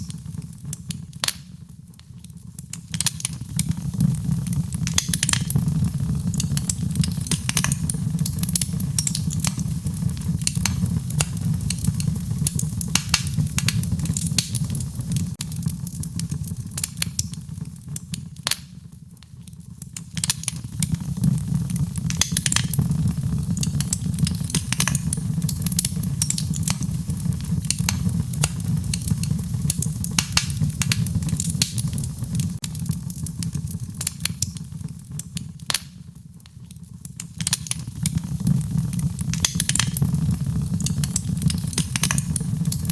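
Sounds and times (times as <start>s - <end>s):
fire low rumble: 0.0s - 42.9s
wood fire crackling and popping: 0.0s - 42.9s.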